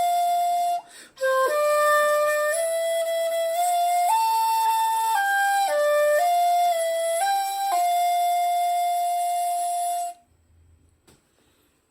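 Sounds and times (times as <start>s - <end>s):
shakuhachi flute melody: 0.0s - 10.3s.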